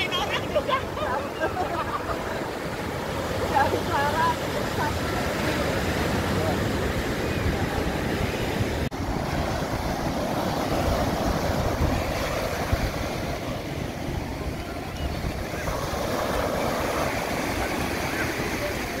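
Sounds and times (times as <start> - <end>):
ocean surf breaking on beach: 0.0 - 19.0
wind buffeting microphone: 0.0 - 19.0.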